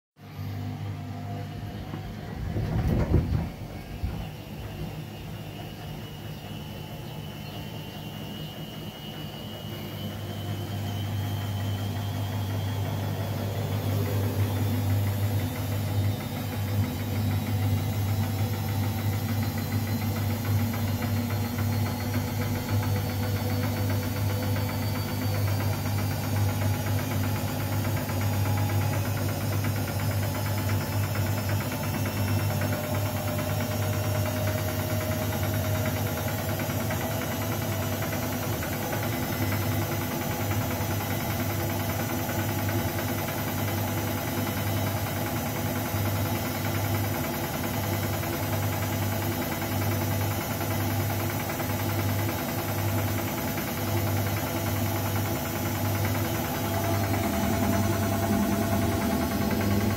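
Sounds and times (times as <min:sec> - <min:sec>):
washing machine spinning: 0:00.2 - 0:59.9.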